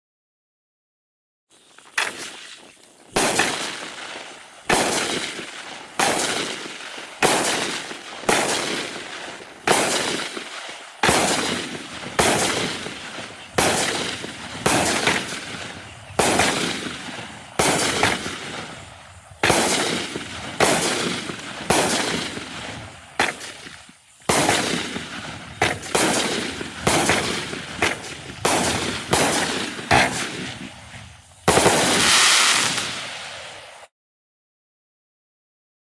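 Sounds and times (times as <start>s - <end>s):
firework cake bangs: 3.1s - 18.8s, 19.4s - 33.3s.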